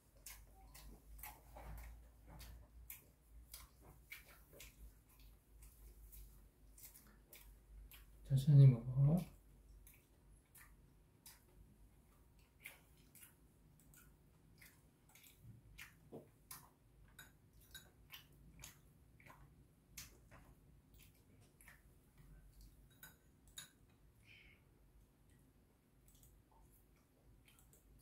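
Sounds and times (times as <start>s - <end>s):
chewing: 0.0s - 8.5s, 9.2s - 28.0s.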